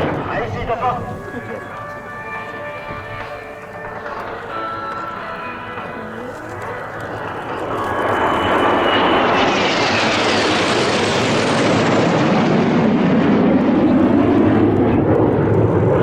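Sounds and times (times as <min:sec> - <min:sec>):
high jet whine sliding down: 0:00.0 - 0:16.0
jet aircraft rushing past: 0:00.0 - 0:16.0.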